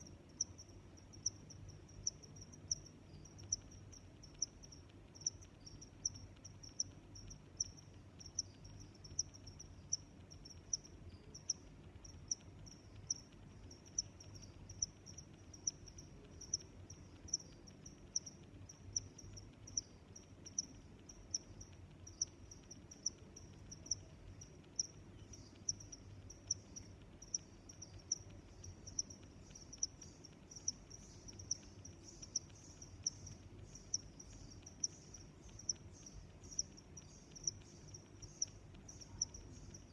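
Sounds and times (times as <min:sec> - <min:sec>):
crickets chirping: 0:00.0 - 0:39.9
faint low hum: 0:00.0 - 0:39.9.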